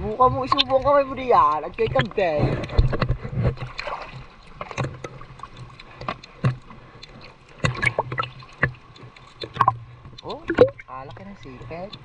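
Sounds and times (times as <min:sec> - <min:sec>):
seawater splashing: 0:00.0 - 0:12.0.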